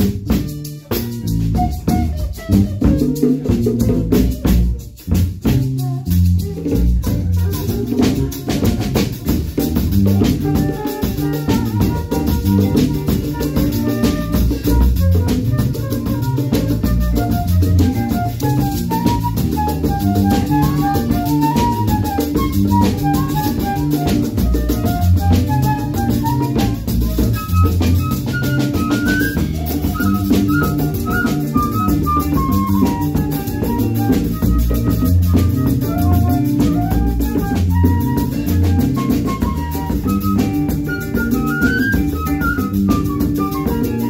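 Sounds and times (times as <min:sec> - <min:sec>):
bass line: 0:00.0 - 0:44.0
drum kit steady beat: 0:00.0 - 0:44.0.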